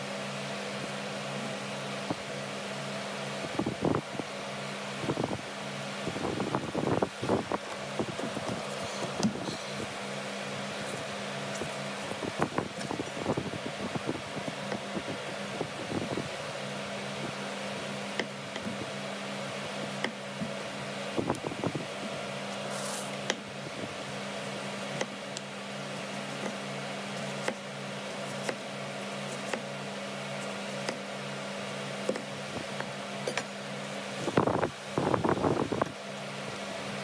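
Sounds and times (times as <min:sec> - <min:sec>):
fan-like hum: 0:00.0 - 0:37.0.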